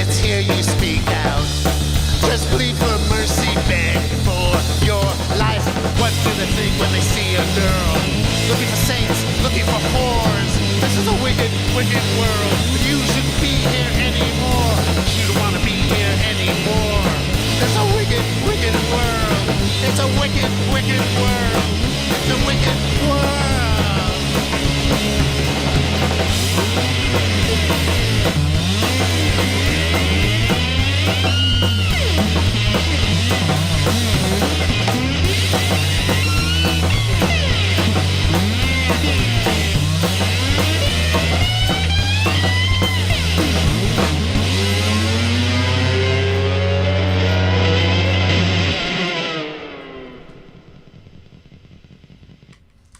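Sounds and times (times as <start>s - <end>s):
bass line: 0.0s - 52.9s
drums: 0.0s - 52.9s
electric guitar sliding notes: 1.6s - 52.5s.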